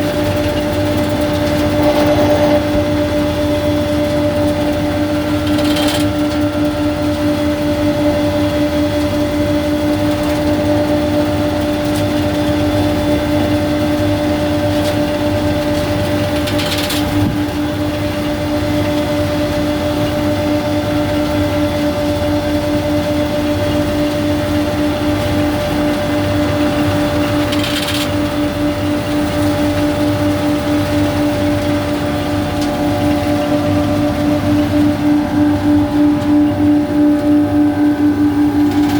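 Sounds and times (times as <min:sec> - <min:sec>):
harvester engine rumble: 0:00.0 - 0:38.9.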